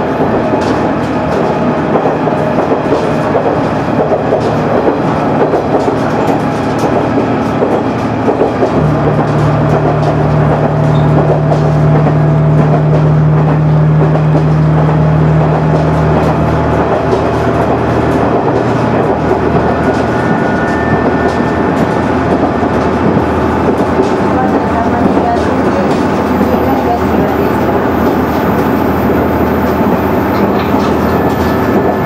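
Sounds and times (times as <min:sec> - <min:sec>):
wheel and rail rumble: 0:00.0 - 0:32.0.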